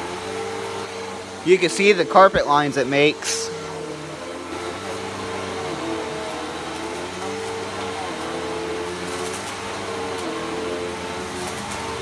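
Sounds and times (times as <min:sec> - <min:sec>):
vacuum cleaner on carpet: 0:00.0 - 0:12.0.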